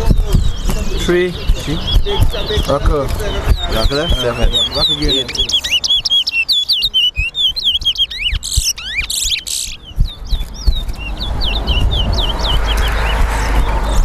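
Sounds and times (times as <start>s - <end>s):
finch singing whistled notes: 0.0s - 14.0s.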